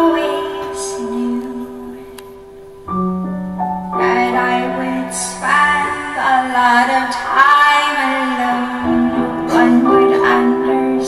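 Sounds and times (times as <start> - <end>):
woman singing: 0.0 - 2.6, 3.9 - 11.0
piano accompaniment: 0.0 - 11.0.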